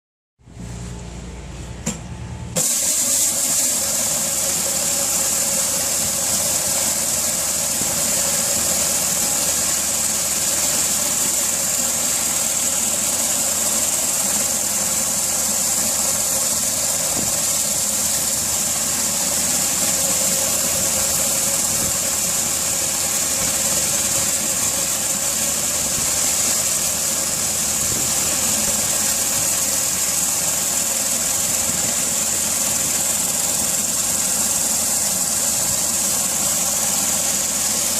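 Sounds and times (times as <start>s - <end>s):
pressure washer running: 1.9s - 37.9s
water jets hissing: 2.6s - 37.9s.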